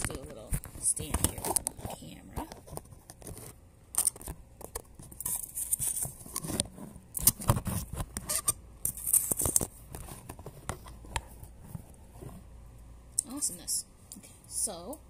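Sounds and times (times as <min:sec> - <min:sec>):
phone handling rubbing and scraping: 0:00.1 - 0:12.5.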